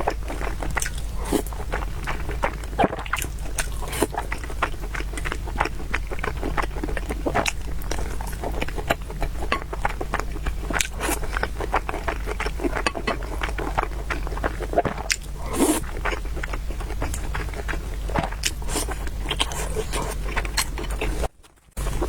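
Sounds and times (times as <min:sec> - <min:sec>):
chewing and biting smacks: 0:00.0 - 0:22.0
steady low hum: 0:00.0 - 0:22.0.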